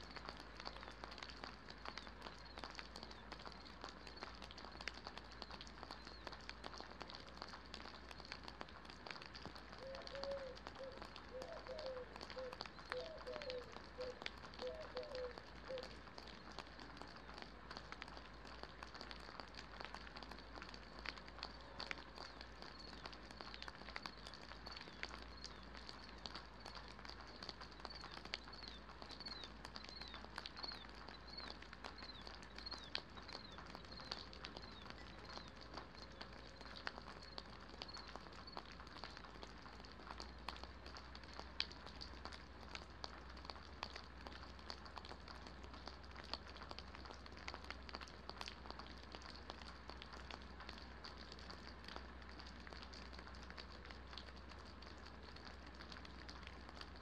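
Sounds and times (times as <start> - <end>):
rain pattering on concrete: 0.0 - 57.0.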